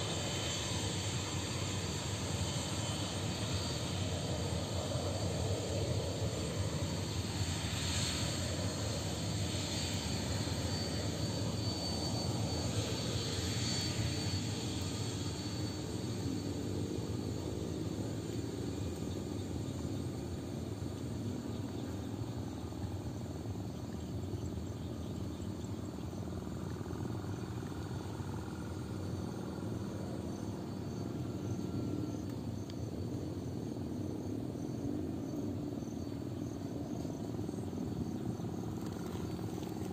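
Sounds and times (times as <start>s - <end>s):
jet engines running with whine: 0.0s - 39.9s.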